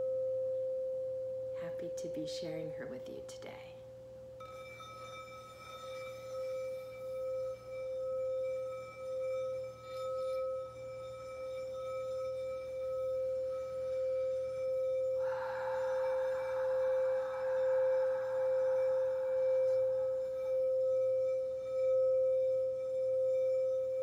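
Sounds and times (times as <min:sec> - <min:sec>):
singing bowl tone: 0:00.0 - 0:02.8, 0:03.7 - 0:24.0.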